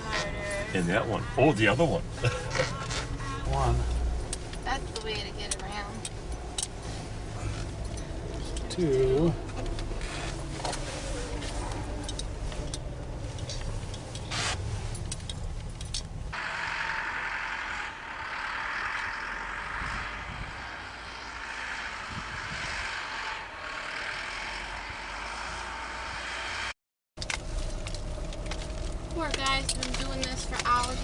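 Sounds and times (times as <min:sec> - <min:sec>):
car rumbling inside cabin: 0:00.0 - 0:31.0.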